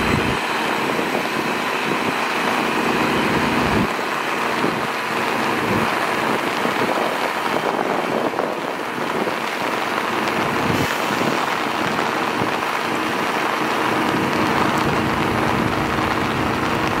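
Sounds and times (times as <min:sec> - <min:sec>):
diesel locomotive engine running: 0:00.0 - 0:17.0
rain hissing: 0:00.0 - 0:17.0.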